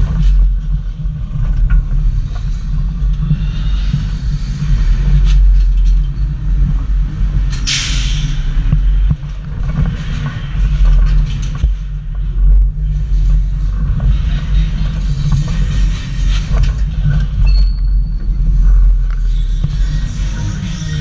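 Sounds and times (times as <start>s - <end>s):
ride machinery rumbling: 0.0s - 21.0s
wind: 0.0s - 21.0s.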